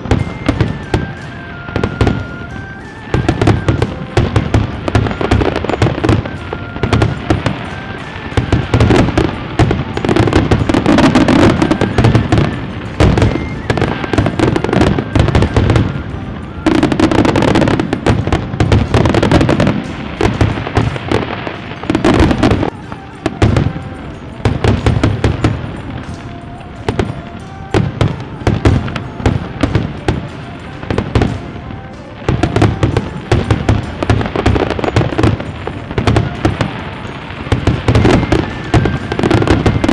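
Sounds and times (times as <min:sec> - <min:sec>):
fireworks bangs and crackles: 0:00.0 - 0:39.9
music playing: 0:00.0 - 0:39.9.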